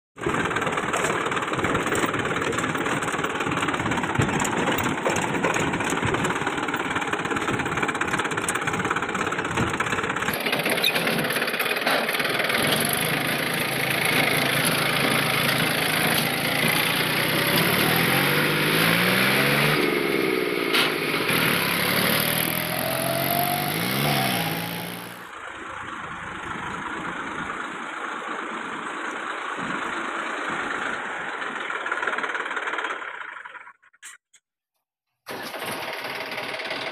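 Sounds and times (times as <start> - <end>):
tractor diesel engine running: 0.2 - 33.9, 35.3 - 36.9.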